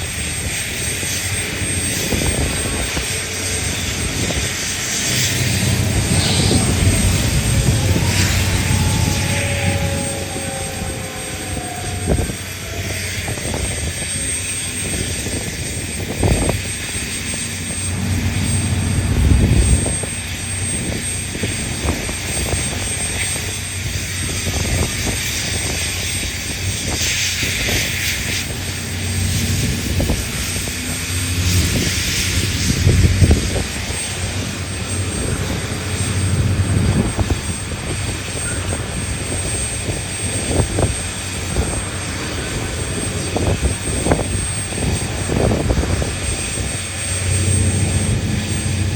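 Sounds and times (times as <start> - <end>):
heavy machinery drone: 0.0 - 48.9.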